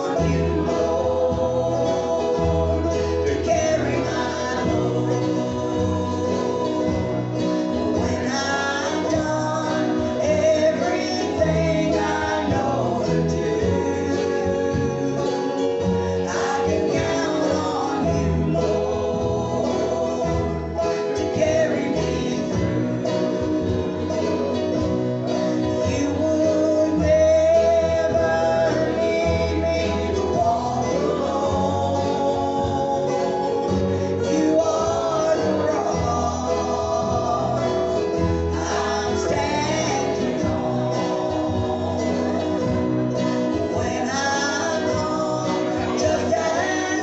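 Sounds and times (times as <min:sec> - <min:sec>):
group singing gospel: 0:00.0 - 0:47.0
guitar accompaniment: 0:00.0 - 0:47.0.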